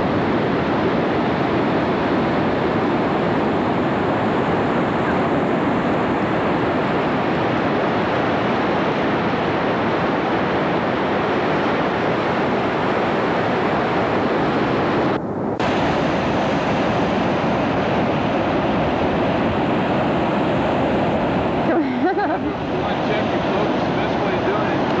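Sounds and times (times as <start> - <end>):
ocean surf breaking on rocks: 0.0 - 25.0
wind on microphone: 0.0 - 25.0.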